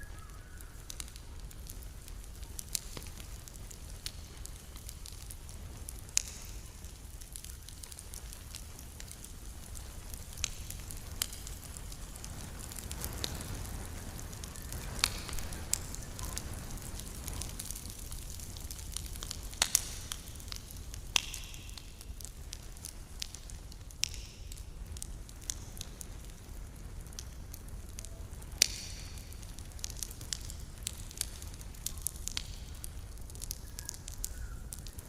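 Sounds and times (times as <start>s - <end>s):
campfire crackling and popping: 0.0s - 35.0s
fire hissing: 0.0s - 35.0s.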